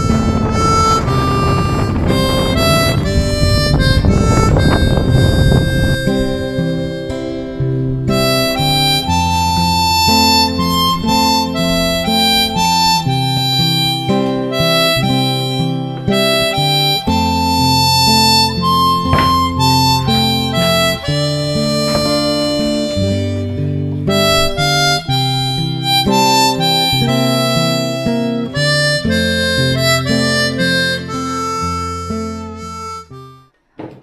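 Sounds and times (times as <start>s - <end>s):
acoustic guitar: 0.0s - 33.5s
bass line: 0.0s - 33.5s
harmonica melody: 0.0s - 33.6s.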